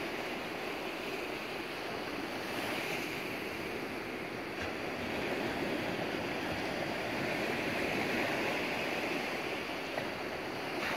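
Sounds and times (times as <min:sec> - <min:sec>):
rushing water: 0:00.0 - 0:10.9.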